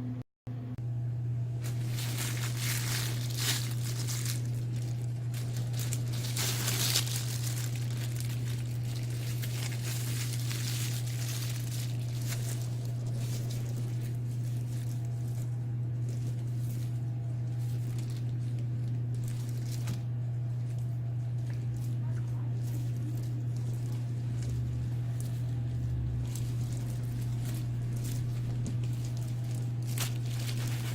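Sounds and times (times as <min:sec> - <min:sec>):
steady low hum: 0:00.0 - 0:30.9
hands rustling materials: 0:01.6 - 0:30.9.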